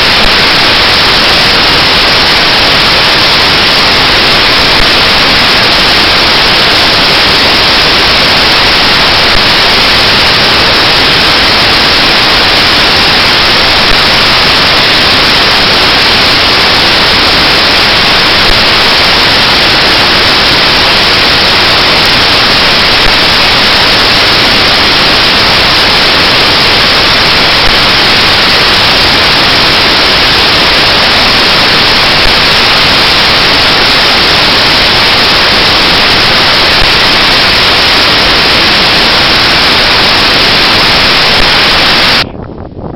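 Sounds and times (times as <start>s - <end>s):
static hiss: 0.0s - 42.3s.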